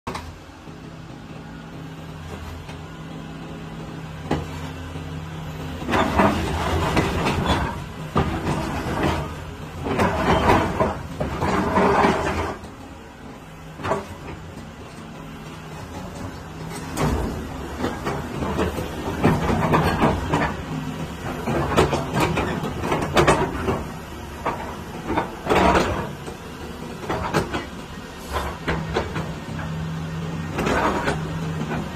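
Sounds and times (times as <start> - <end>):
excavator diesel engine: 0.1 - 31.9.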